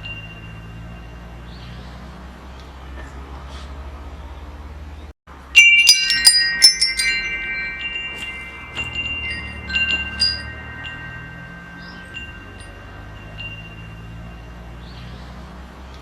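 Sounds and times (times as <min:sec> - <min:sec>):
metal wind chimes ringing: 0:00.0 - 0:02.4, 0:05.3 - 0:15.9.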